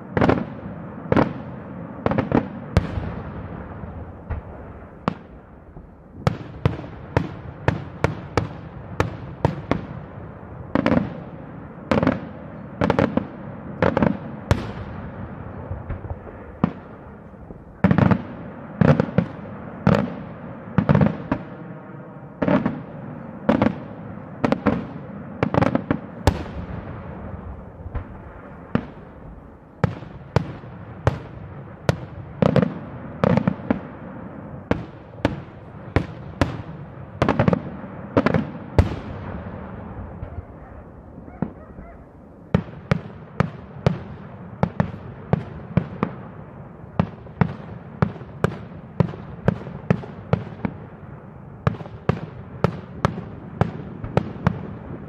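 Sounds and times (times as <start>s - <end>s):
fireworks bangs with echo: 0.0s - 55.0s.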